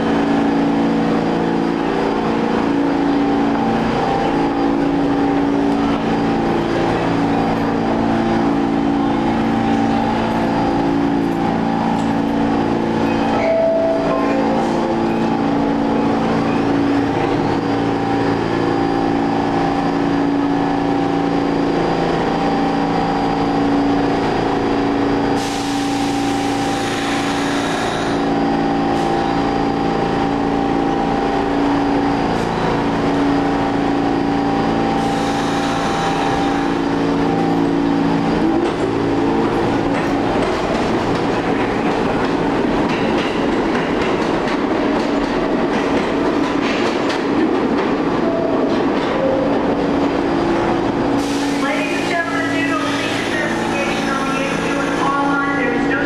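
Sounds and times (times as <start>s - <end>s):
train motor whine: 0.0s - 48.4s
subway train humming: 0.0s - 56.0s.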